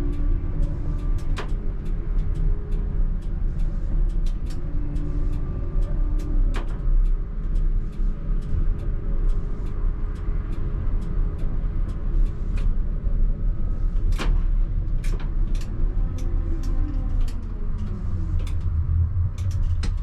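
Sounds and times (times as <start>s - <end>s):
tram low rumble: 0.0s - 20.0s.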